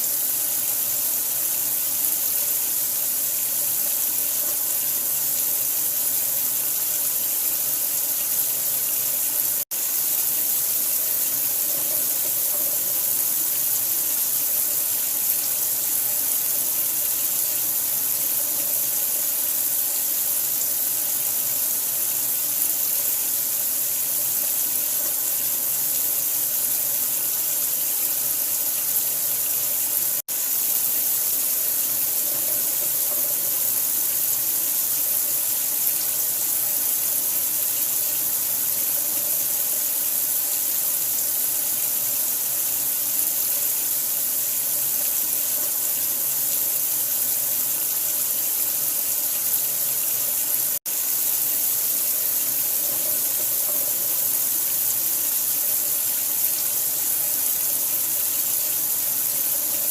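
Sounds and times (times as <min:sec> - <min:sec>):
hissing running water: 0:00.0 - 0:59.9.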